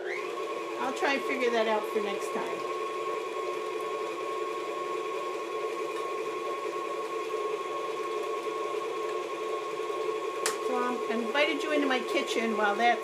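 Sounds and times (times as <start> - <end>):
stand mixer motor humming: 0.0 - 13.0.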